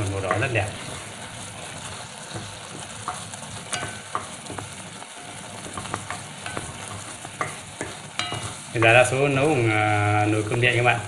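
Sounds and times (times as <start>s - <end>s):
rice boiling with bubbling hiss: 0.0s - 11.0s
utensil scraping metal pot: 0.0s - 11.0s.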